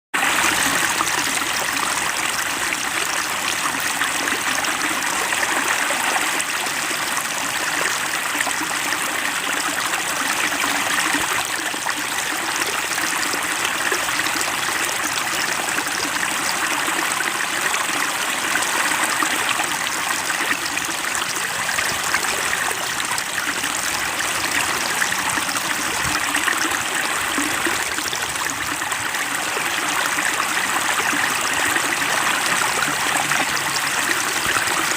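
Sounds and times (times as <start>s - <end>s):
small stream trickling: 0.2s - 34.9s.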